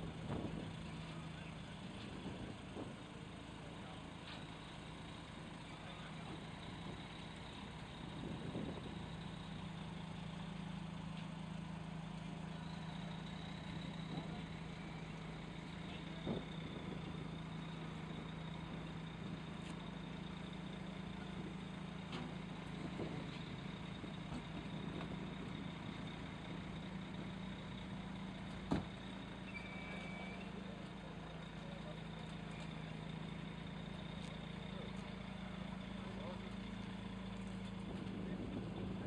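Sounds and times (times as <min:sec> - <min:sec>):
heavy vehicle engine running: 0:00.0 - 0:39.0.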